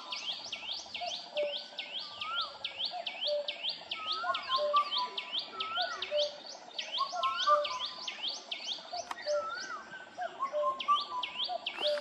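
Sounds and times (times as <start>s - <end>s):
birds calling with falling notes: 0.0s - 12.0s
lower whistled bird notes: 0.0s - 12.0s.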